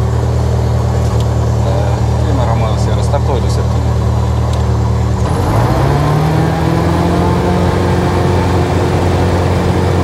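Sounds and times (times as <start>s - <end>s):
propeller plane engine at full power: 0.0s - 10.0s.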